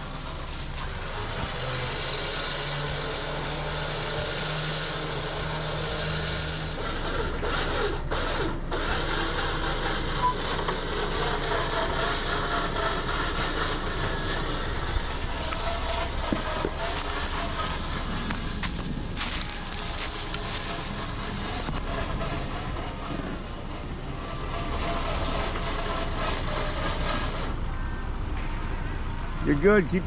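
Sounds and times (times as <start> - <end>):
engine humming: 0.0 - 30.0
rough mechanical noise: 0.0 - 30.0.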